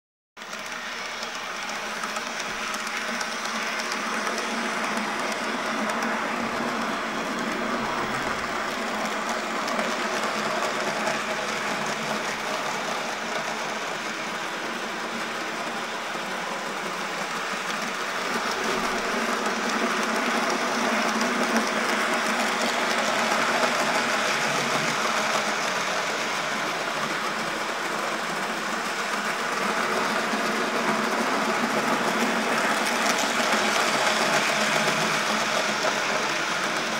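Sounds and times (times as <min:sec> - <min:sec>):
model train motor whirring: 0:00.4 - 0:36.9
wheels rattling on rails: 0:00.4 - 0:36.9.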